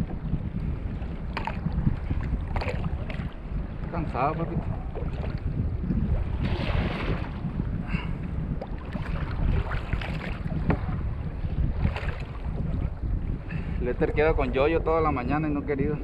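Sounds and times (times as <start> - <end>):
water splashing against kayak hull: 0.0 - 13.5
wind buffeting microphone: 0.0 - 16.0.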